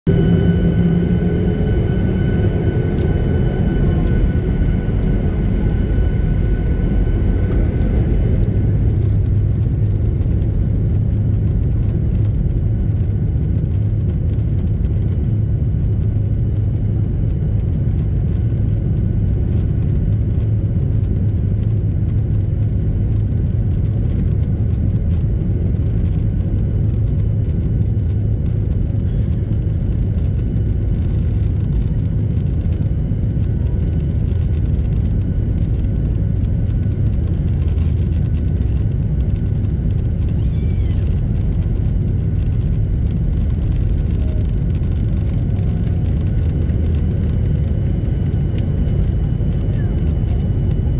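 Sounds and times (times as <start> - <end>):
jet engines low rumble: 0.0 - 50.9
thin engine whine: 0.1 - 20.6, 22.4 - 50.9.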